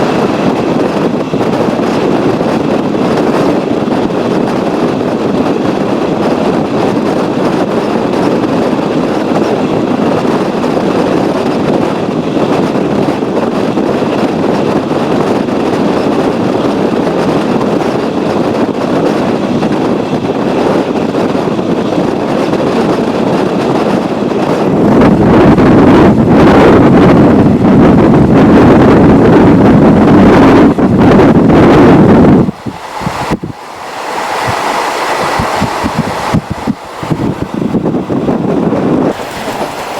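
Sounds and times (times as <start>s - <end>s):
train wheels rushing on rail: 0.0s - 39.9s.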